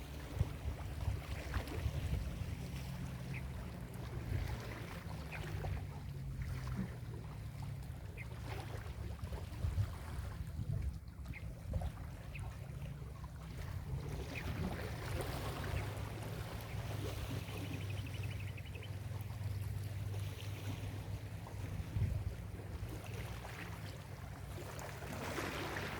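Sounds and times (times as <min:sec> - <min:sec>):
ocean waves washing onto beach: 0:00.0 - 0:10.1, 0:13.4 - 0:25.9.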